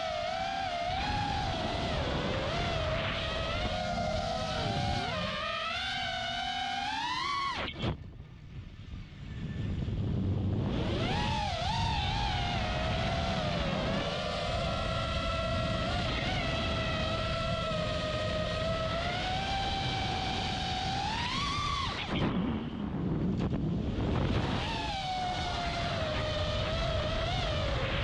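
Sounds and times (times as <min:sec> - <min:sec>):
quadcopter motors whining: 0:00.0 - 0:08.1, 0:09.0 - 0:28.0
low wind rumble: 0:00.0 - 0:28.0.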